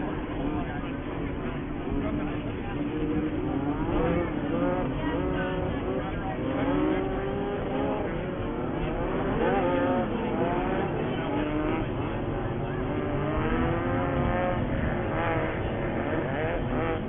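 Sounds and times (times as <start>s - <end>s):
racing buggy engines revving: 0.0s - 17.0s.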